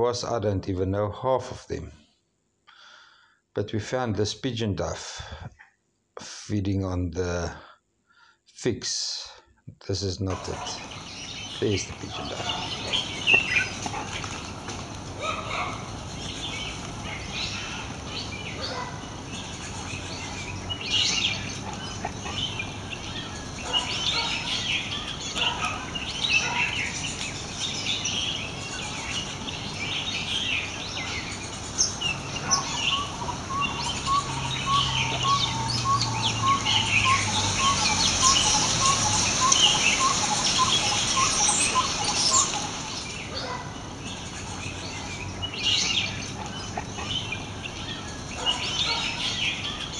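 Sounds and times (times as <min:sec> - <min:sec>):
birds chirping: 0:09.0 - 0:49.9.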